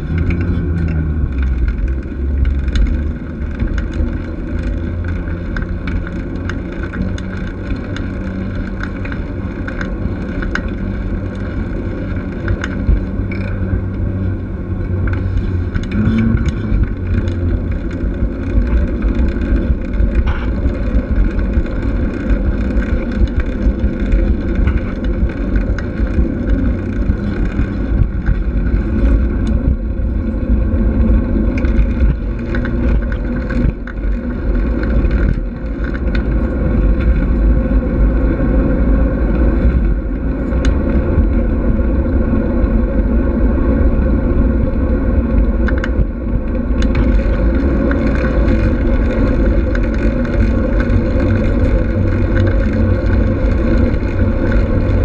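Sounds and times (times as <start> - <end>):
bike rattles and clicks: 0.0 - 55.0
rumble of tyres and wind: 0.0 - 55.0.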